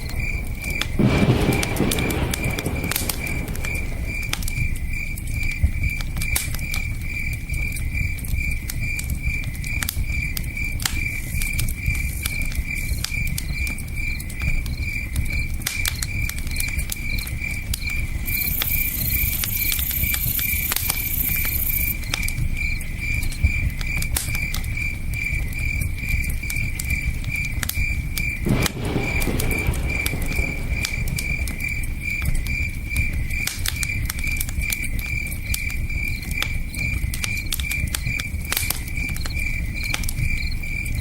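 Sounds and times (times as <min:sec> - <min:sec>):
campfire crackling and popping: 0:00.0 - 0:41.0
crickets chirping: 0:00.0 - 0:41.0.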